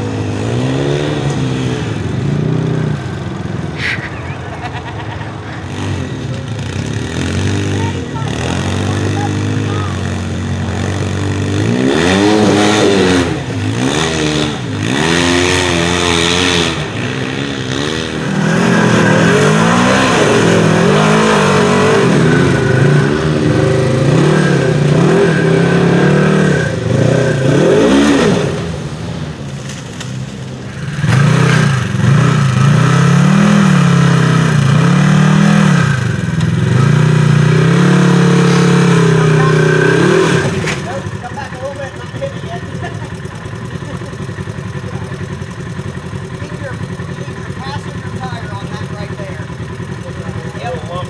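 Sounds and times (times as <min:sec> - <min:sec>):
engine revving: 0:00.0 - 0:51.0.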